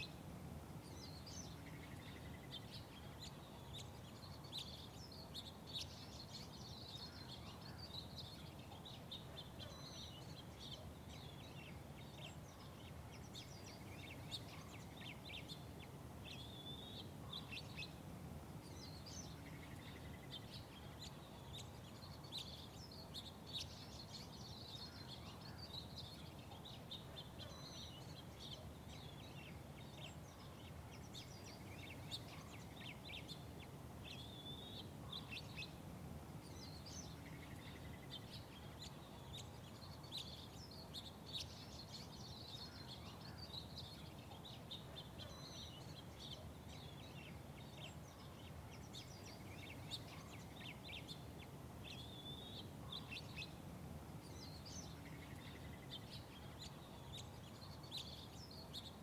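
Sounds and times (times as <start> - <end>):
small songbirds chirping: 0.0 - 59.0.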